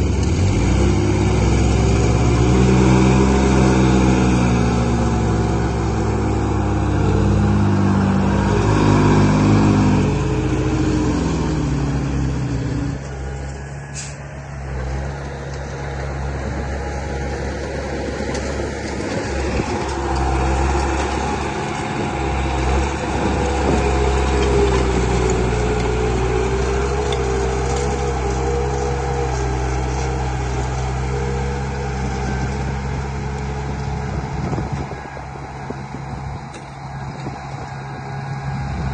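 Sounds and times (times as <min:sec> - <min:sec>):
heavy vehicle engine running: 0:00.0 - 0:38.9.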